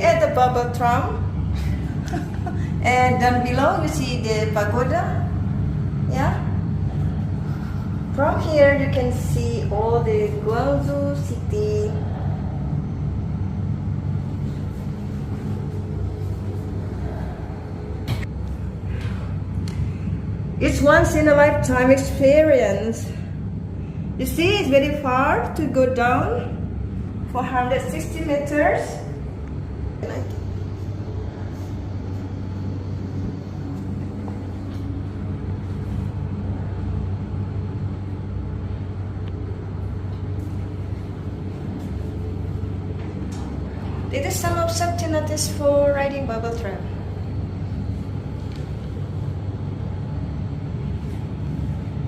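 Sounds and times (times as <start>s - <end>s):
tram capsule rumble and hum: 0.0s - 52.0s.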